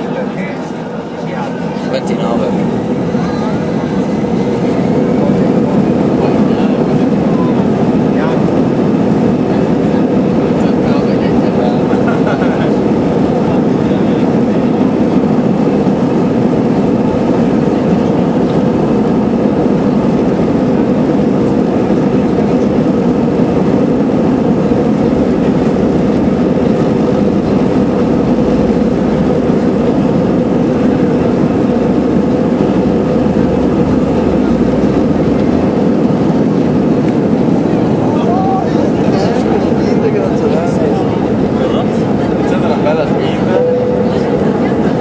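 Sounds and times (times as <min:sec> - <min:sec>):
jet engines at takeoff thrust: 0:00.0 - 0:45.0.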